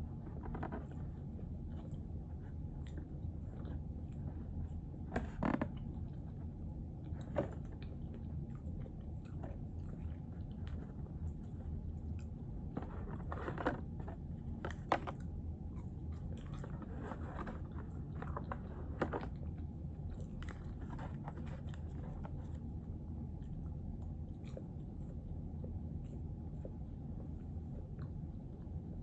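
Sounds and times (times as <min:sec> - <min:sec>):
low room hum: 0:00.0 - 0:29.0
chewing and biting food: 0:00.1 - 0:29.0.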